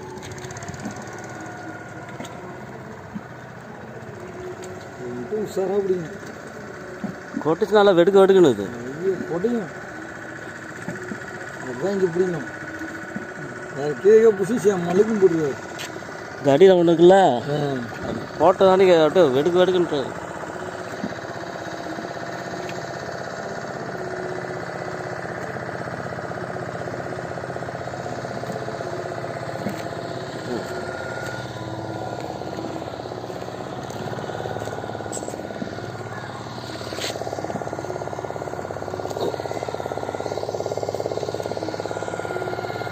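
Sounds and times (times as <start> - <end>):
engine running with fast throb: 0.0 - 42.9.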